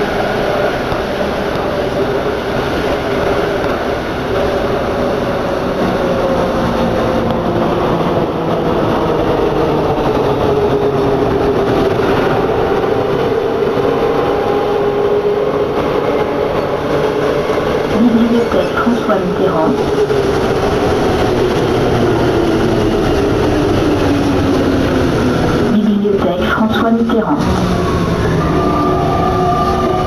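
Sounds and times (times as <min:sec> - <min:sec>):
train rolling noise: 0:00.0 - 0:30.0.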